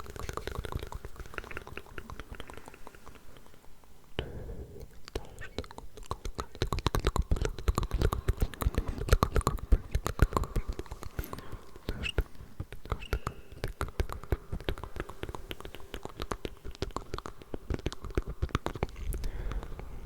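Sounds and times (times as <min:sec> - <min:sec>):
wet mouth clicks and smacks: 0:00.0 - 0:04.2, 0:04.8 - 0:20.0
faint whispering: 0:00.0 - 0:20.0.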